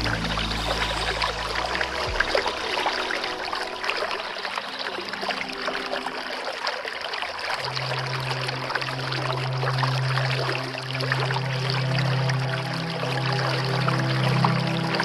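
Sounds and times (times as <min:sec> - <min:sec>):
low steady tone: 0:00.0 - 0:15.0
stream water babbling: 0:00.0 - 0:15.0.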